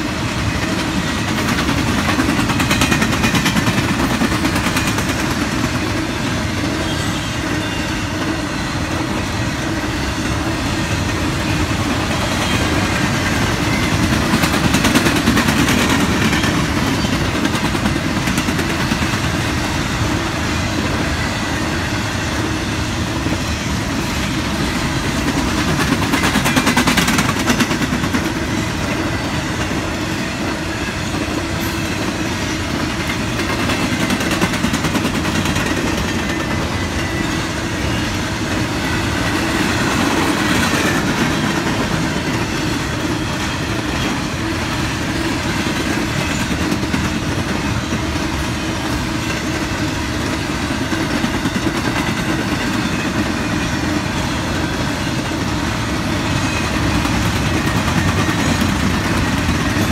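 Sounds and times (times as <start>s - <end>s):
train wheels on rails: 0.0s - 59.9s
wheels clickety-clack: 0.0s - 59.9s.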